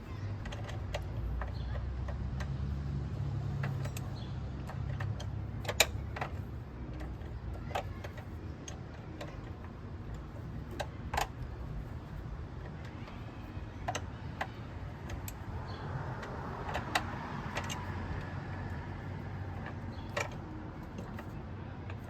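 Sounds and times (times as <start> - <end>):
wrench clicking on metal nuts: 0.2 - 12.3, 12.9 - 22.0.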